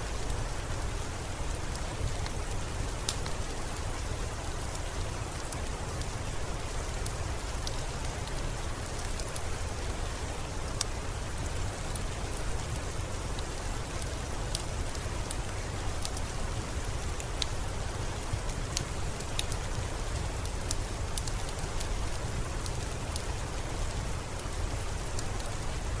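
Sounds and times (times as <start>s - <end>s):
steady rainfall: 0.0s - 26.0s.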